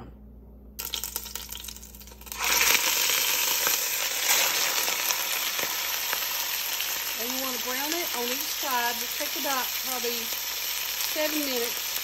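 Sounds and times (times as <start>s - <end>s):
hot oil crackling: 0.8s - 12.0s
meat sizzling in a pot: 0.8s - 12.0s.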